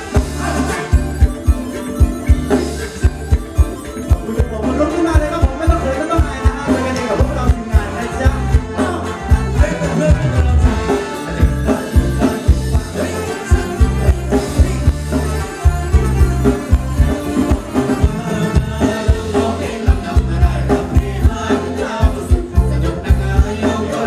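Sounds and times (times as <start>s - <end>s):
live band dance music: 0.0s - 24.0s
person singing: 0.0s - 24.0s.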